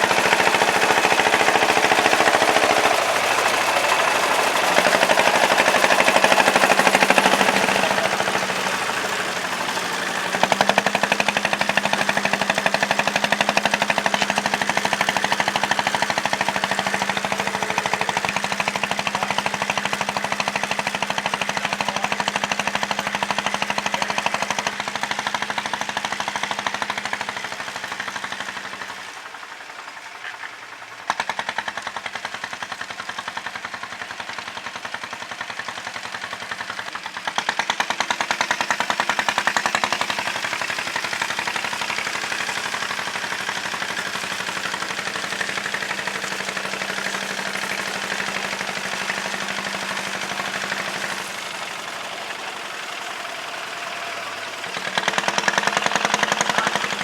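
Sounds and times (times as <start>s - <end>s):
tractor engine knocking: 0.0s - 57.0s.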